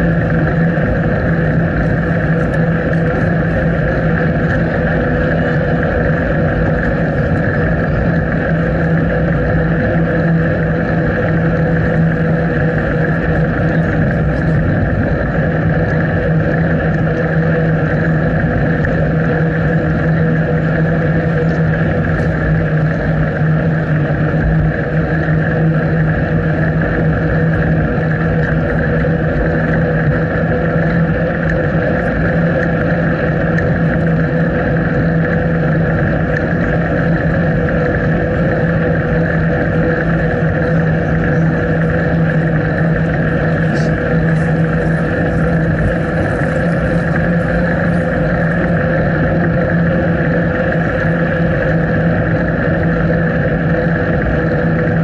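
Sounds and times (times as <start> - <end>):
wind and riding noise: 0.0 - 55.0.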